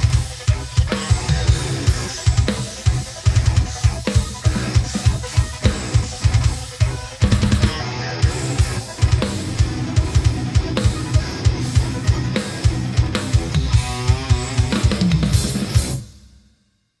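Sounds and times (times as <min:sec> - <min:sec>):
metal music with guitar: 0:00.0 - 0:16.2
drum kit played hard: 0:00.0 - 0:16.6.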